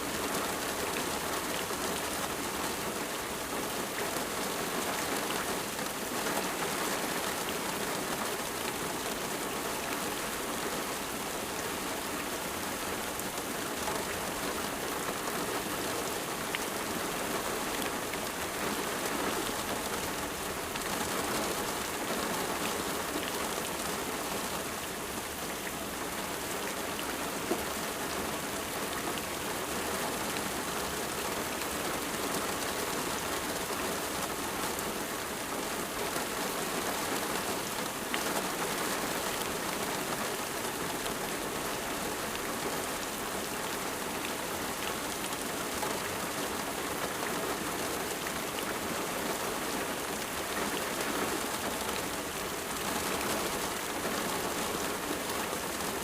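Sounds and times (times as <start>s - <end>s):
rain pattering on a surface: 0.0s - 56.0s.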